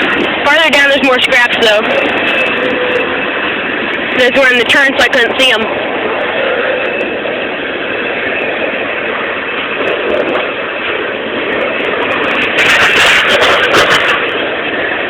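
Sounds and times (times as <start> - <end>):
freight train cars rumbling past: 0.0 - 15.0.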